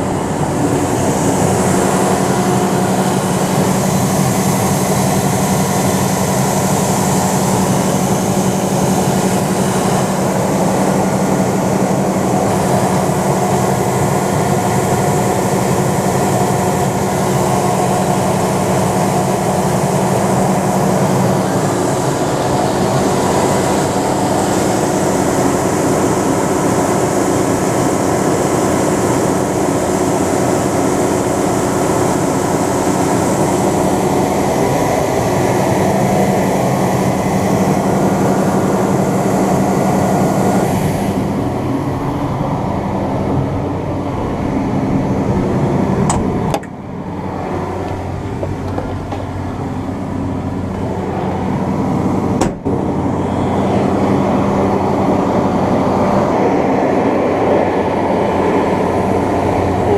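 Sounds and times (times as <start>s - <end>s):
strong low hum: 0.0s - 27.0s, 29.4s - 59.9s
combine harvester running: 0.0s - 59.9s.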